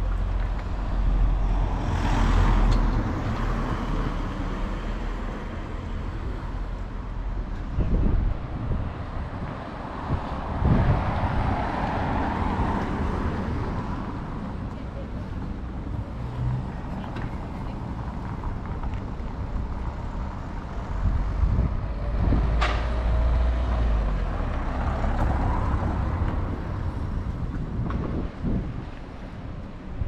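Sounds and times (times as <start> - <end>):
street traffic noise: 0.0 - 30.0.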